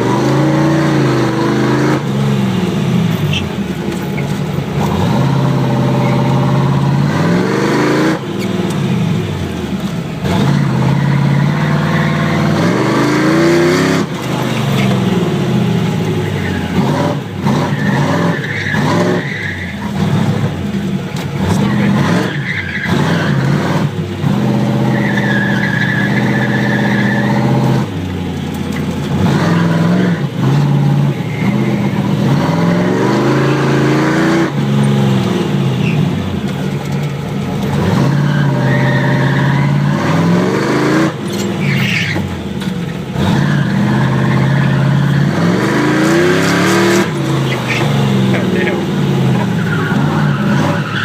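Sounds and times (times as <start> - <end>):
car engine revving: 0.0 - 51.0
tires squealing: 0.0 - 51.0.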